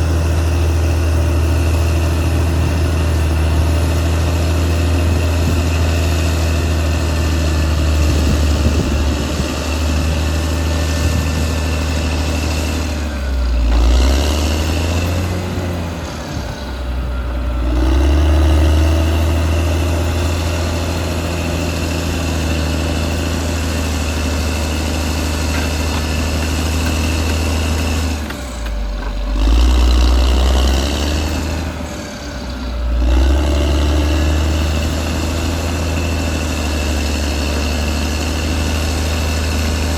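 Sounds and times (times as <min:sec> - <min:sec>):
bulldozer diesel engine working: 0:00.0 - 0:39.9
high steady whine: 0:00.0 - 0:39.9.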